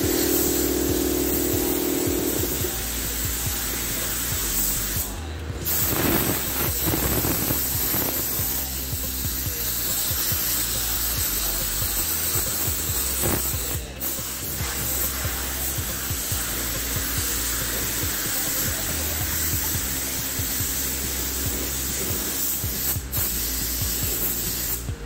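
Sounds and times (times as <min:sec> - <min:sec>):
spray gun hissing: 0:00.0 - 0:24.9.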